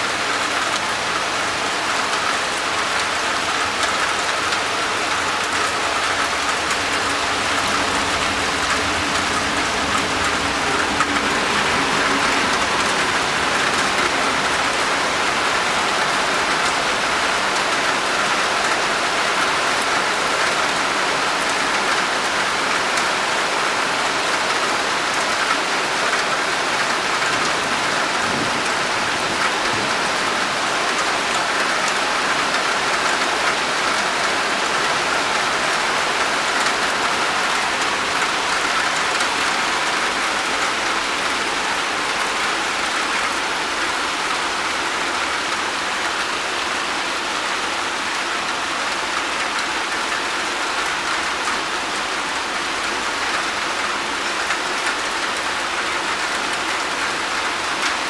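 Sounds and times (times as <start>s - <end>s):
heavy rain on wet floor and leaves: 0.0s - 58.0s.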